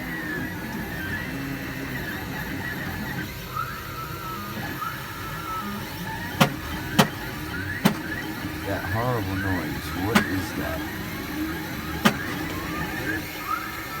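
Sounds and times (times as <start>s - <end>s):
printer stepper motors whining: 0.0s - 14.0s.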